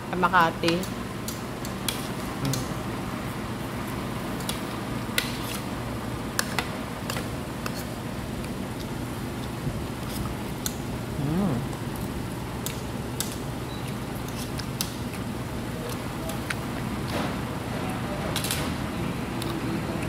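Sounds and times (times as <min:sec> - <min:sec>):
ventilation hum: 0:00.0 - 0:20.0.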